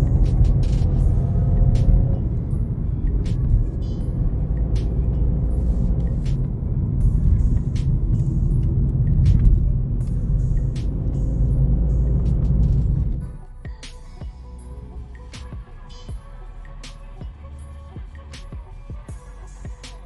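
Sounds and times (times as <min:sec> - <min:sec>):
car engine and road rumble: 0:00.0 - 0:20.0
hip hop beat: 0:00.0 - 0:20.0.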